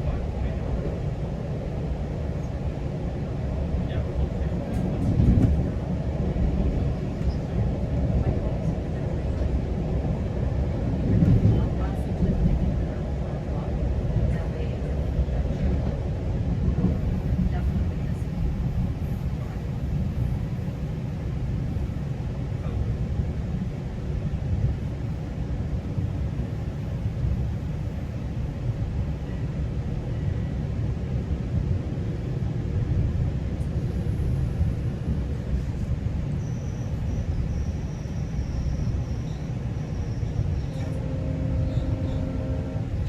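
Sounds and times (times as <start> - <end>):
train rumbling along track: 0.0 - 43.0.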